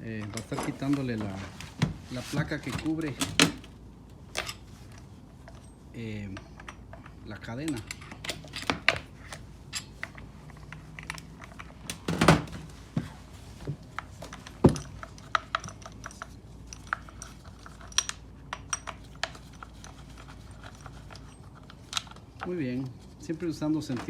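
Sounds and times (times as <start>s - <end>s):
tools and parts clattering: 0.0s - 13.1s, 13.7s - 22.6s.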